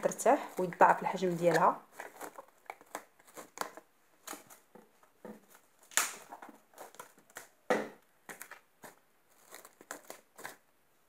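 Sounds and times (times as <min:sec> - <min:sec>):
plastic cling film crinkling: 0:00.0 - 0:10.7.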